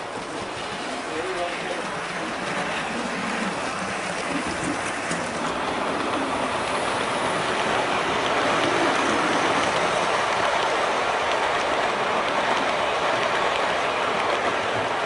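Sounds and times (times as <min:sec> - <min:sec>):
model train wheels rumbling on track: 0:00.0 - 0:15.0.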